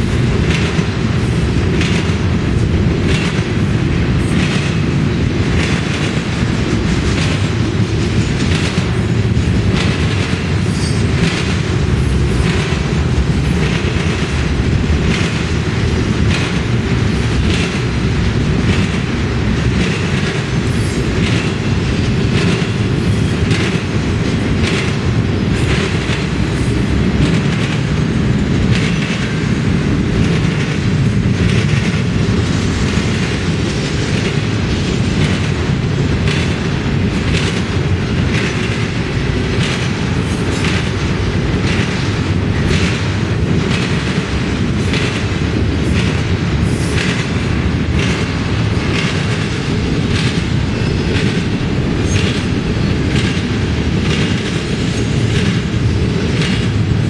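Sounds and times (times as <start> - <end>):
freight train rolling past: 0.0 - 57.0
train wheels clicking: 0.0 - 57.0.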